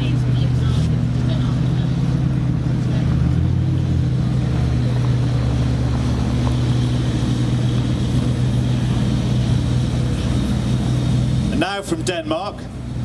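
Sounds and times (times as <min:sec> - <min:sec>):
car engine deep drone: 0:00.0 - 0:13.0.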